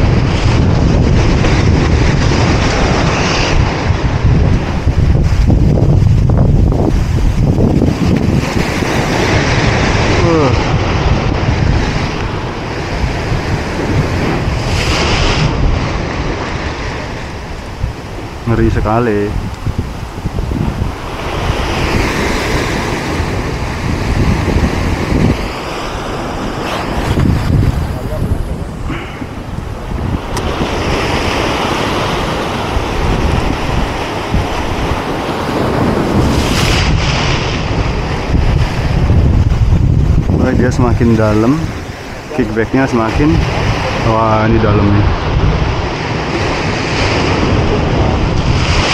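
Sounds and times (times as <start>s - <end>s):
surf breaking over rocks: 0.0s - 48.9s
wind buffeting microphone: 0.0s - 48.9s.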